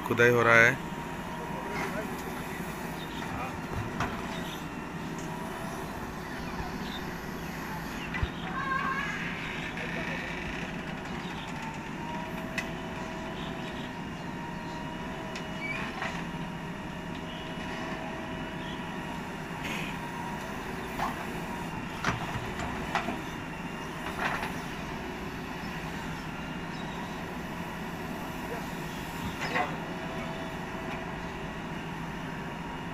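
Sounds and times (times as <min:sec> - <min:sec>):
diesel engine droning: 0:00.0 - 0:32.9
higher steady engine tone: 0:00.0 - 0:32.9.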